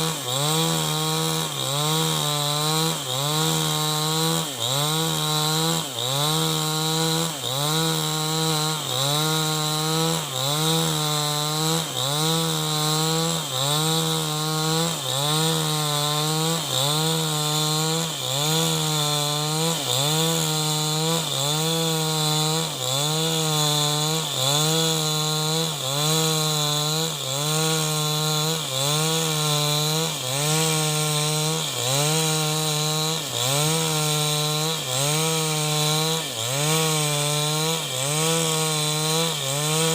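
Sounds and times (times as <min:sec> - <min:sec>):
chainsaw ripping wood: 0:00.0 - 0:39.9.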